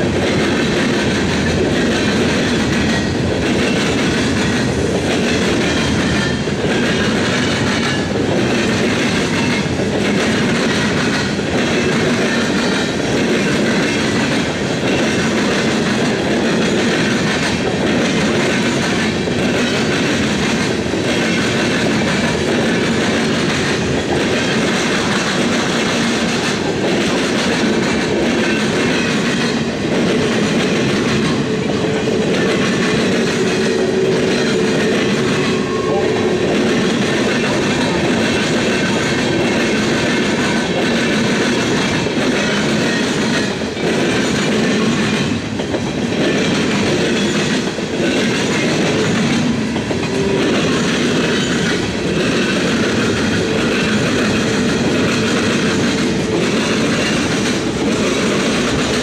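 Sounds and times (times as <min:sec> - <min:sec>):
train wheels clicking over joints: 0:00.0 - 0:59.0.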